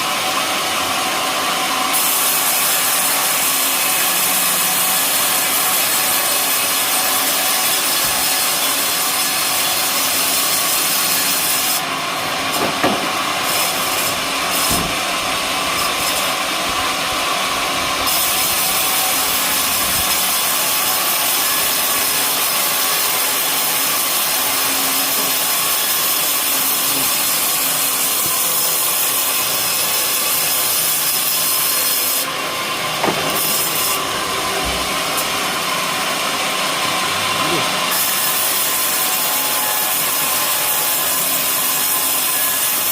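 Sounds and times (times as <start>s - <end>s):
saw blade cutting wood: 0.0s - 42.9s.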